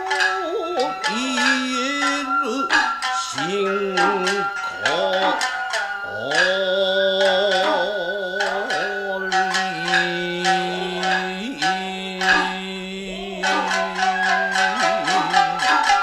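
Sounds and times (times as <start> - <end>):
person singing long wavering notes: 0.0 - 16.0
shamisen plucks: 0.0 - 16.0.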